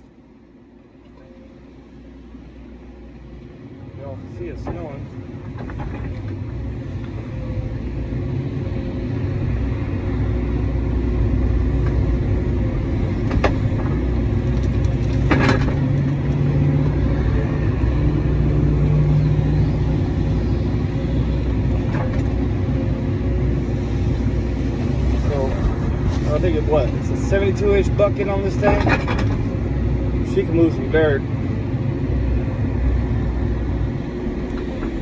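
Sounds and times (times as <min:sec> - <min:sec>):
excavator engine and hydraulics: 0:00.0 - 0:35.0.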